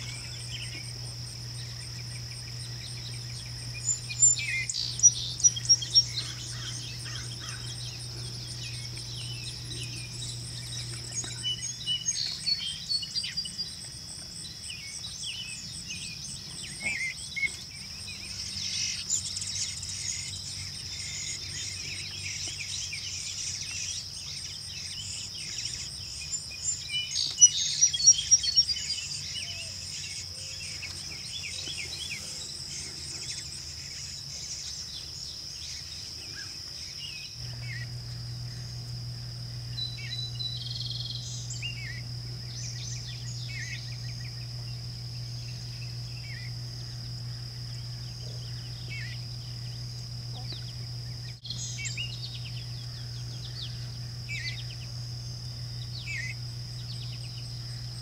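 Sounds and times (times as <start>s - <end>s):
bird chirps: 0.0s - 58.0s
insects droning: 0.0s - 58.0s.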